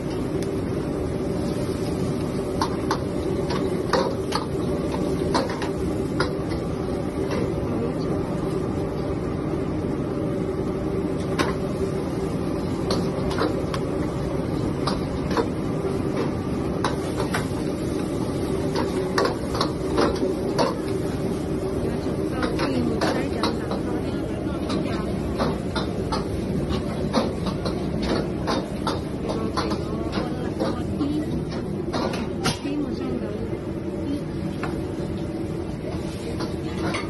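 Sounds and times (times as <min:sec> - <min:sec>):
kitchen exhaust hum: 0:00.0 - 0:37.0
wok burner roaring: 0:00.0 - 0:37.0.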